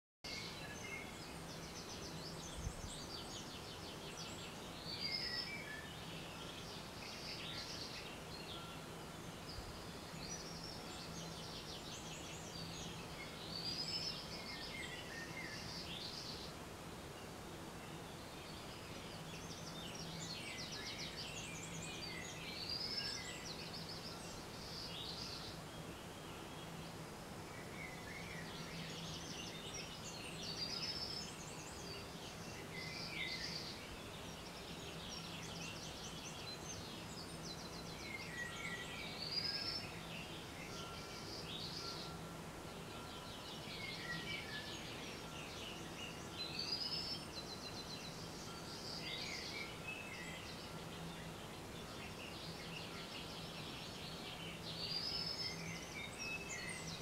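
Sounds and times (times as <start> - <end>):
songbirds chirping and trilling: 0.2 - 57.0.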